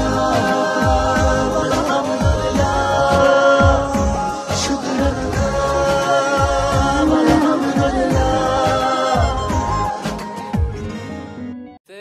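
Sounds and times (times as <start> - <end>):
music with pulsing bass beat: 0.0 - 10.9.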